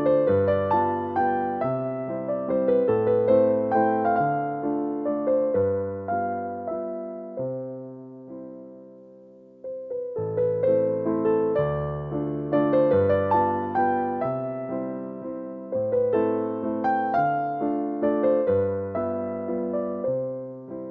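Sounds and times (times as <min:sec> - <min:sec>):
classical piano music: 0:00.0 - 0:20.9.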